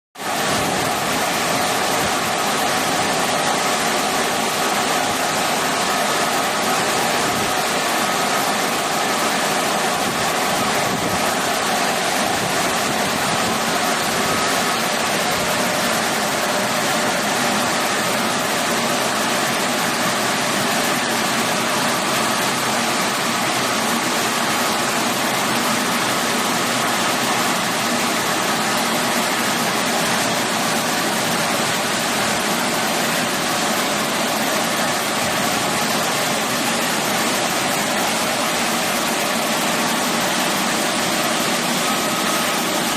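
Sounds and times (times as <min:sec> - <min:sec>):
electric blower fan running: 0:00.2 - 0:42.9.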